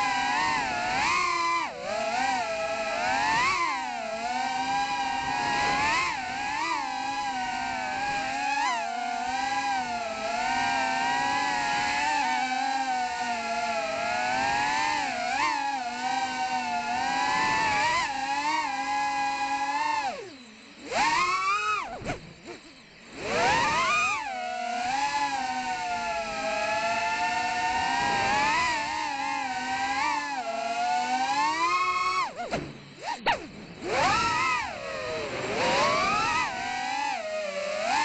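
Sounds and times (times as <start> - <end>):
quadcopter motors whining: 0.0 - 38.0.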